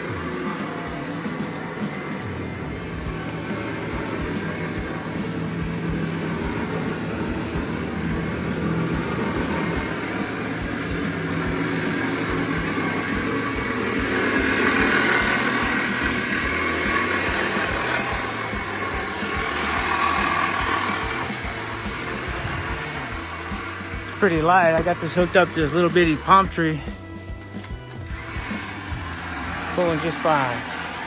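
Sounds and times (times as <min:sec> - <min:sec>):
electric winch motor running: 0:00.0 - 0:31.0.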